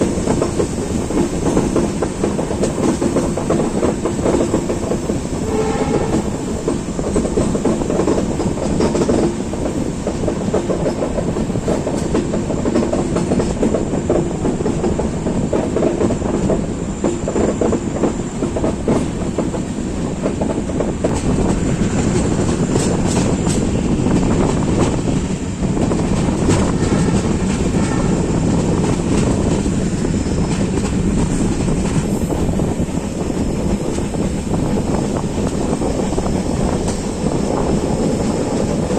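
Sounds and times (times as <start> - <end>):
clickety-clack of rail joints: 0.0 - 38.9
train wheels rumbling on rails: 0.0 - 38.9.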